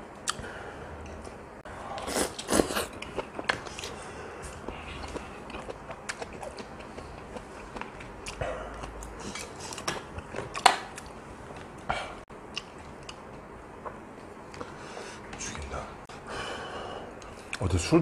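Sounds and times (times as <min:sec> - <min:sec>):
close chewing and eating: 0:00.2 - 0:15.8.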